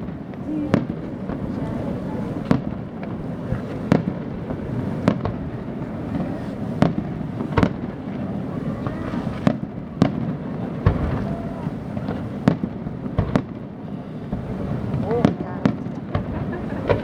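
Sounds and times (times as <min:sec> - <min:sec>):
fireworks bangs: 0:00.0 - 0:17.0
steady background noise: 0:00.0 - 0:17.0.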